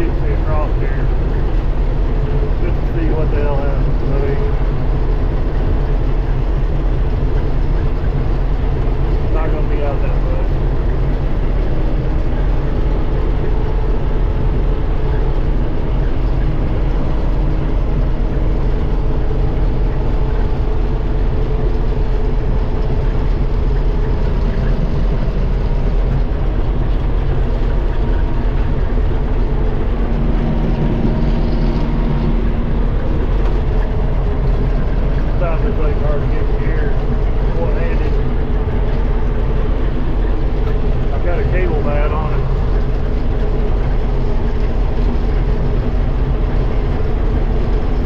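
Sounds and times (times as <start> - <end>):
combine harvester drone: 0.0 - 48.0.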